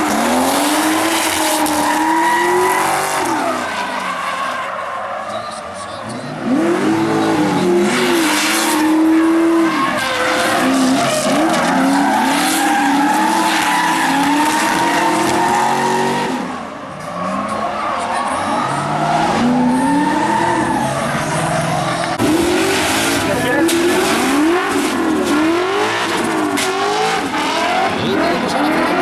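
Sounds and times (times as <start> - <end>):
tyres screeching: 0.0 - 28.2
car engines at full throttle: 0.0 - 29.0.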